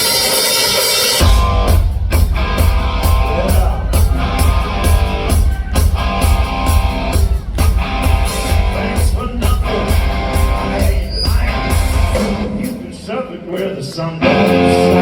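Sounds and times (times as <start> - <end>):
steady drum beat: 0.0 - 13.8
hard rock band playing: 0.0 - 15.0.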